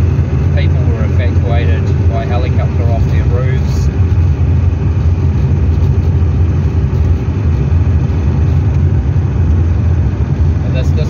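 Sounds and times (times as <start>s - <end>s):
car engine cruising hum: 0.0s - 11.0s
tyre and road noise: 0.0s - 11.0s.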